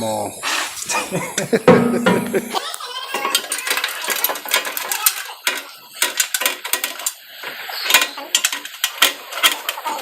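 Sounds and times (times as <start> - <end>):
metal tools clinking: 1.4 - 10.0.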